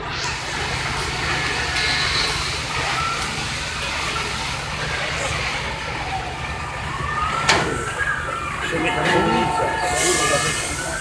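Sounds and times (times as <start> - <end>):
faint voices: 0.0 - 11.0
fire engine engines and pumps: 0.0 - 11.0.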